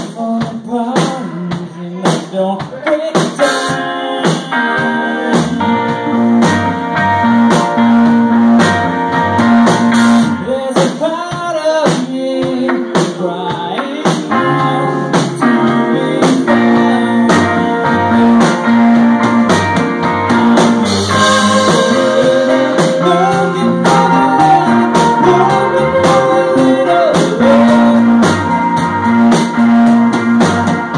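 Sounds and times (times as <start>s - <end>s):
person singing: 0.0s - 6.7s, 10.3s - 29.6s
bass guitar: 0.0s - 30.9s
electric guitar: 0.0s - 30.9s.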